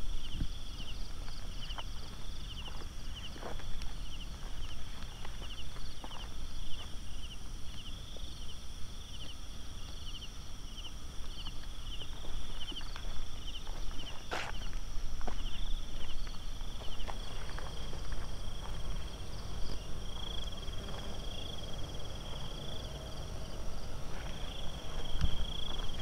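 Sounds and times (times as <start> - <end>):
footsteps outdoors: 0.0 - 26.0
high-pitched insect drone: 0.0 - 26.0
insects chirping in rapid trills: 0.0 - 26.0.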